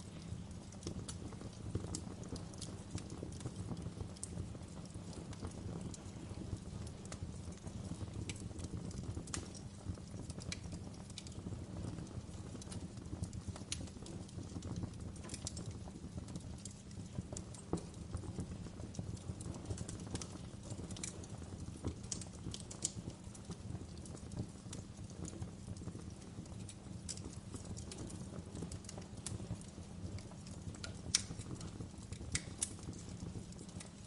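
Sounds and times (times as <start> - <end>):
fire crackling and popping: 0.0 - 34.0
fire flames rumbling: 0.0 - 34.0.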